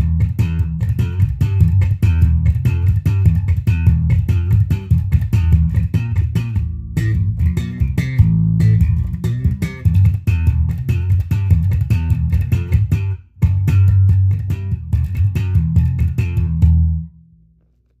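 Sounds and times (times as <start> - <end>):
electric bass guitar solo: 0.0 - 17.2.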